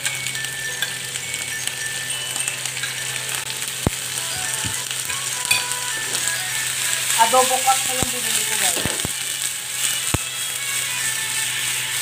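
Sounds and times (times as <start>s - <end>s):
chicken sizzling in frying pan: 0.0s - 12.0s.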